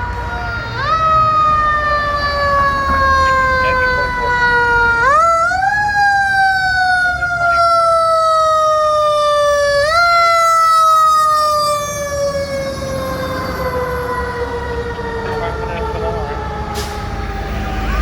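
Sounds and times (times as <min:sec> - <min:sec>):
engine and road rumble: 0:00.0 - 0:18.0
fire engine siren wailing: 0:00.0 - 0:18.0.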